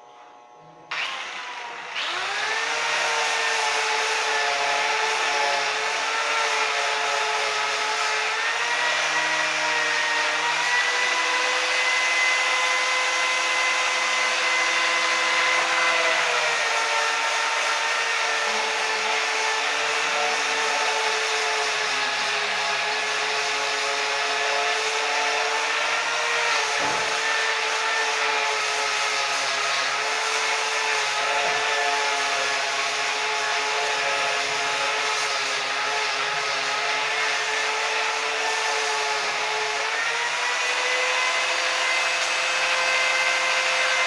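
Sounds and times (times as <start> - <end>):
angle grinder buffing metal: 0.0 - 44.0.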